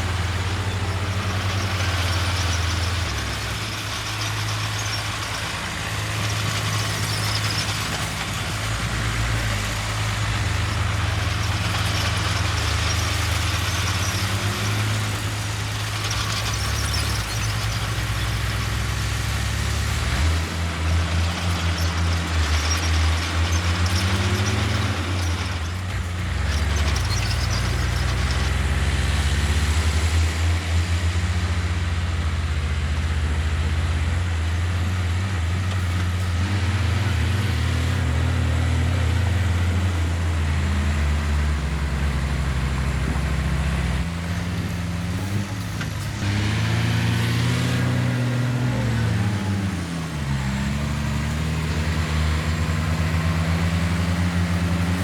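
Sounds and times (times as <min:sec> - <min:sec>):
machinery clatter: 0:00.0 - 0:30.7, 0:34.5 - 0:55.0
heavy diesel machinery running: 0:00.0 - 0:55.0.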